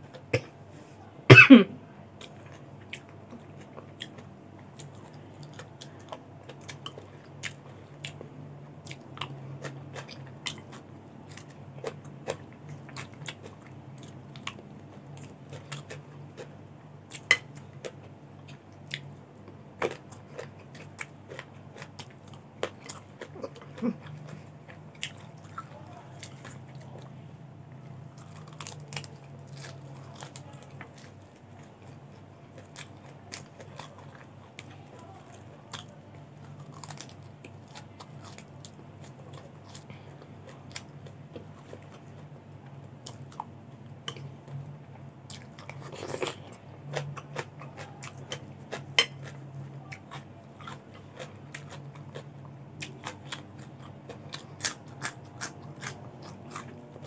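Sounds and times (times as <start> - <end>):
faint low hum: 0.0 - 57.0
chewing and crunching vegetables: 2.2 - 57.0.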